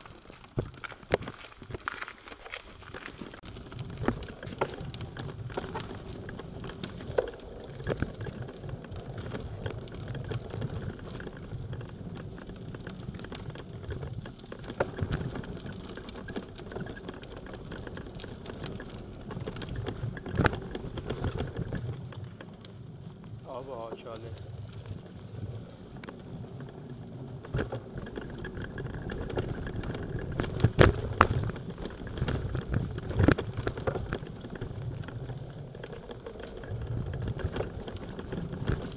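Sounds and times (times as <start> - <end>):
bicycle rolling on dirt path: 0.0 - 38.9.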